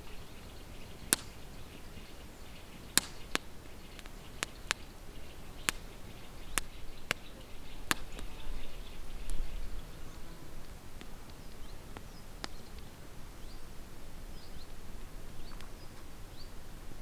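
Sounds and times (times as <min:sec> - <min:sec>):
campfire crackling and popping: 0:00.0 - 0:09.9, 0:10.5 - 0:16.3.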